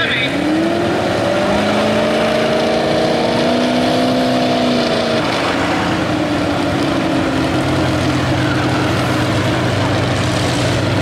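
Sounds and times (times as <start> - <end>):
truck engine under heavy load: 0.0 - 11.0.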